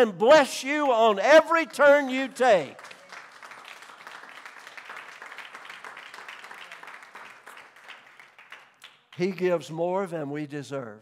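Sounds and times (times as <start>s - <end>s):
congregation applauding: 0.8s - 9.7s.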